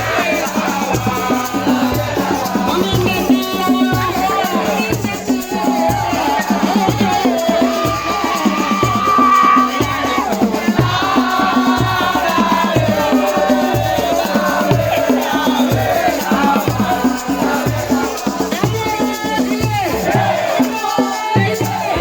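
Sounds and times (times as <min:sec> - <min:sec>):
shaker rattling: 0:00.0 - 0:22.0.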